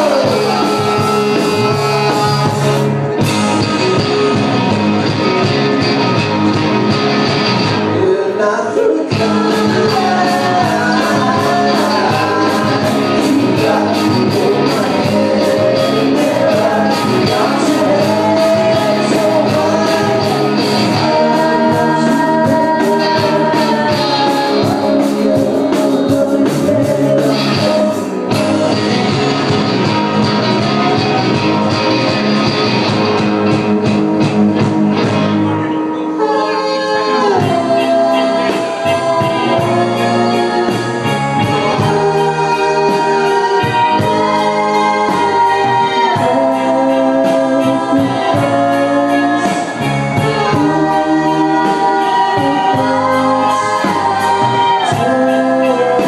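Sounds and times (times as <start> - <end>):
person singing: 0.0 - 6.1, 7.9 - 32.4, 35.5 - 56.0
live rock band playing: 0.0 - 8.4, 9.0 - 56.0.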